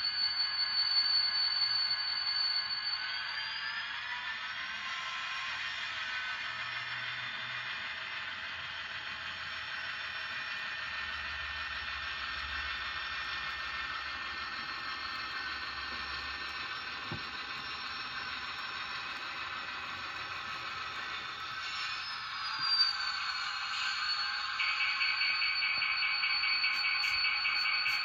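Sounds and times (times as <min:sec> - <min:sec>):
model train whirring along track: 0:00.0 - 0:28.0.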